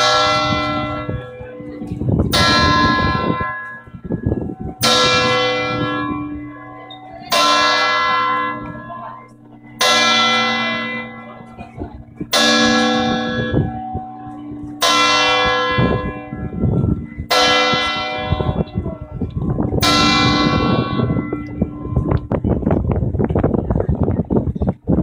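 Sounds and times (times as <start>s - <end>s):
large church bells ringing: 0.0s - 25.0s.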